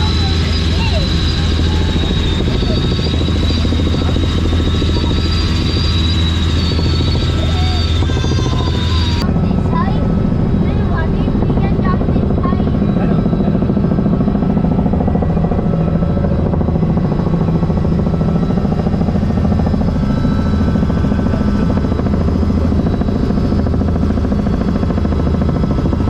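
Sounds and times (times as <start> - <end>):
helicopter rotor drone: 0.0 - 26.0.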